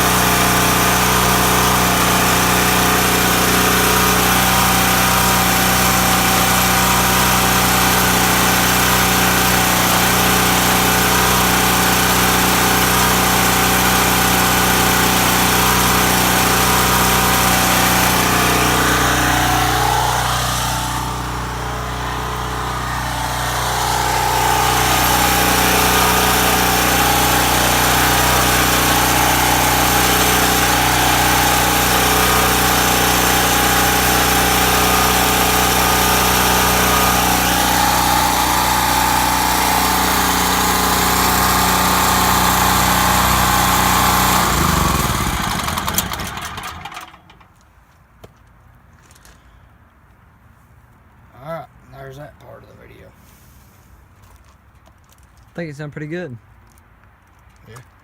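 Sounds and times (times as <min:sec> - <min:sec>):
generator engine droning: 0:00.0 - 0:47.5.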